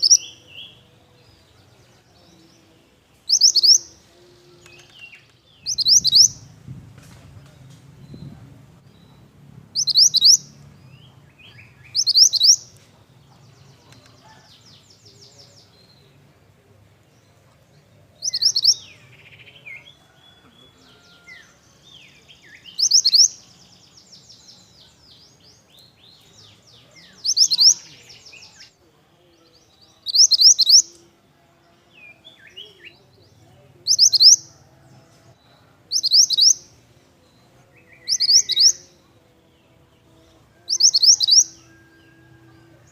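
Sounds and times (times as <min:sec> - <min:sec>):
bird twittering song: 0:00.0 - 0:31.1, 0:31.9 - 0:34.6, 0:35.9 - 0:42.9
soft bird chirps and calls: 0:00.0 - 0:31.1, 0:31.8 - 0:42.9.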